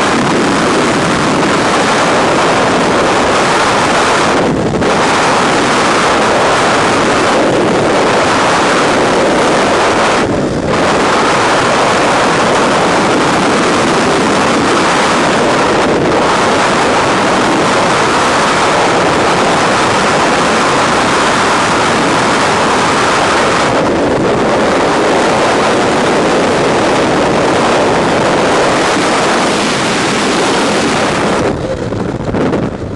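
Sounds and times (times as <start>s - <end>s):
wind rushing over microphone: 0.0s - 32.9s.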